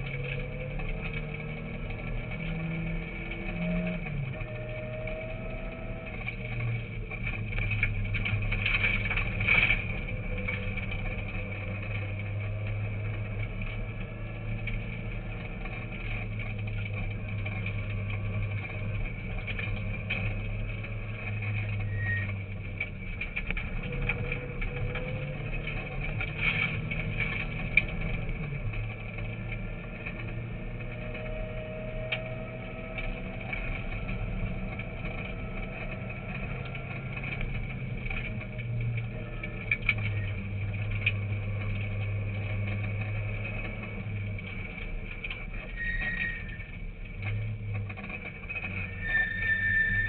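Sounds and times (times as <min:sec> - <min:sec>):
car engine running: 0:00.0 - 0:50.0
road and tyre noise: 0:00.0 - 0:50.0
sharp clicks and knocks: 0:00.0 - 0:50.0.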